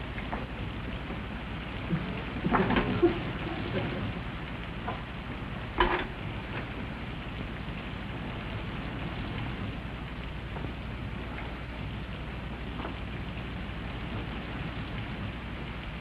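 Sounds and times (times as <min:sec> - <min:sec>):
rain on a roof: 0:00.0 - 0:16.0.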